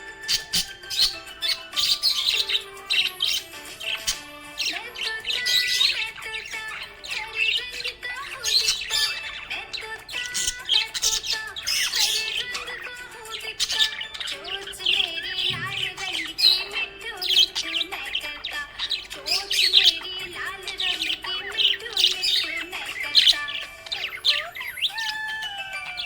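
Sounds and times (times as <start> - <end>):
budgerigars chirping and warbling: 0.0 - 26.0.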